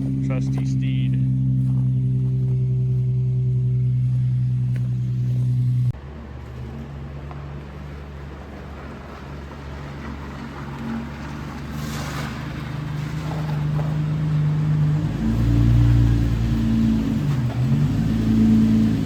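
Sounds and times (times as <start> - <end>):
car engine running: 0.0 - 19.0
rough vehicle rumble: 0.0 - 19.0.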